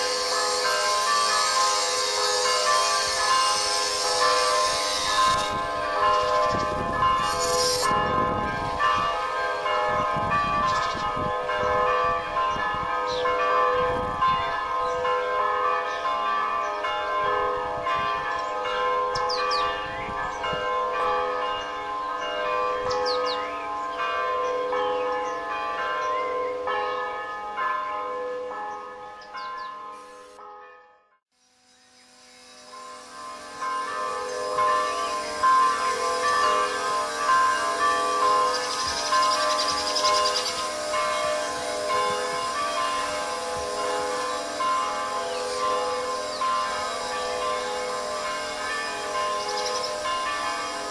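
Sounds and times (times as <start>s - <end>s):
church bells ringing: 0.0s - 31.2s, 32.0s - 50.9s.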